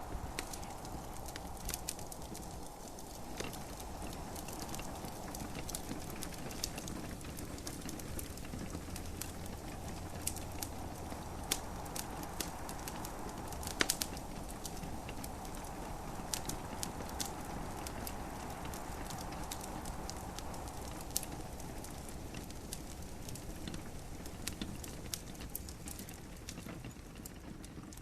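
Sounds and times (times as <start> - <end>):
steady low hiss: 0.0 - 28.0
wood fire crackling: 0.0 - 28.0.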